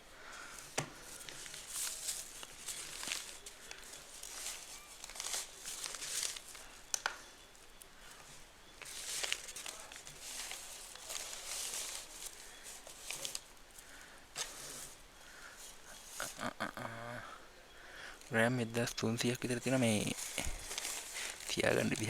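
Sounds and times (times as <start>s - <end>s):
food parcel rustling: 0.0s - 22.0s.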